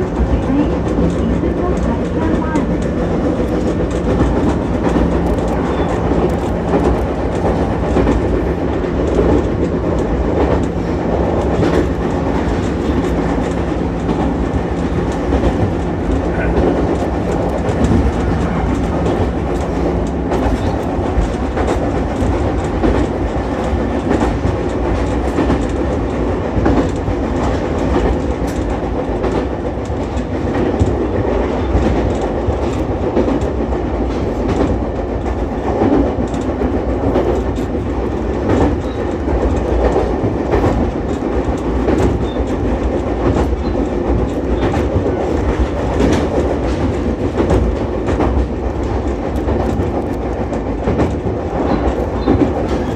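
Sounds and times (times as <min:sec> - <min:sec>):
rail joint clicks: 0:00.0 - 0:52.9
wheels rumbling on rail: 0:00.0 - 0:52.9.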